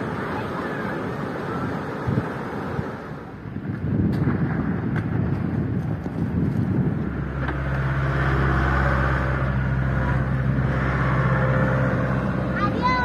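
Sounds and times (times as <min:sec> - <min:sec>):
steady engine hum: 0:00.0 - 0:13.0
wind-like noise: 0:00.0 - 0:13.0.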